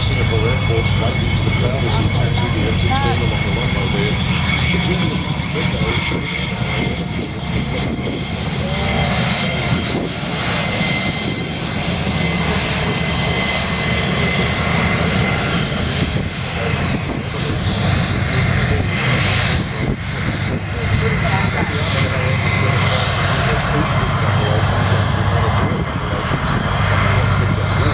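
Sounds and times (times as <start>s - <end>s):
aircraft engine rush: 0.0s - 27.9s
high steady whine: 0.0s - 27.9s.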